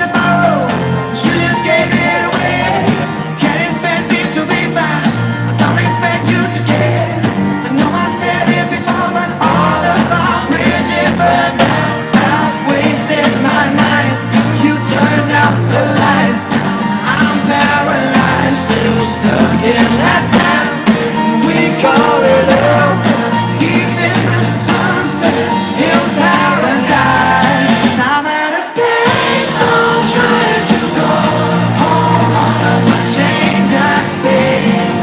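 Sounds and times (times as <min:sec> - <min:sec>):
live pop-rock band: 0:00.0 - 0:35.0
person singing: 0:00.0 - 0:35.0.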